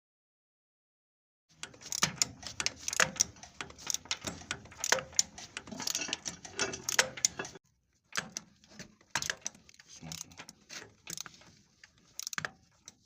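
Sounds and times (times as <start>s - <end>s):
hand tools clicking on metal: 1.6s - 13.0s.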